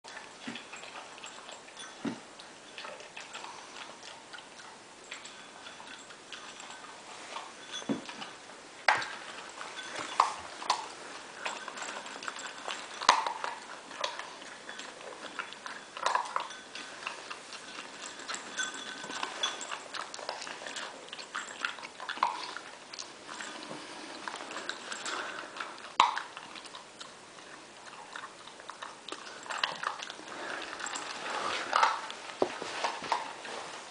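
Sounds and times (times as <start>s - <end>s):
puppy chewing and crunching: 0.0s - 33.9s.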